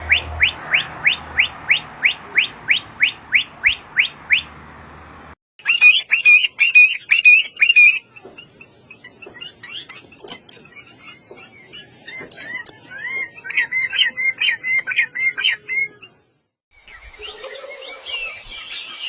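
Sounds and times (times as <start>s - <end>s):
bird warbling song: 0.0s - 5.0s, 5.6s - 19.0s
bird chirping: 0.0s - 19.0s.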